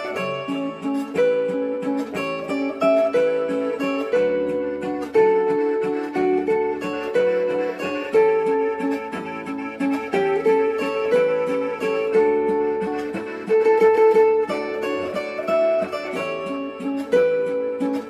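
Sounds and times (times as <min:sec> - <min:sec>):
zither plucked melody: 0:00.0 - 0:18.0.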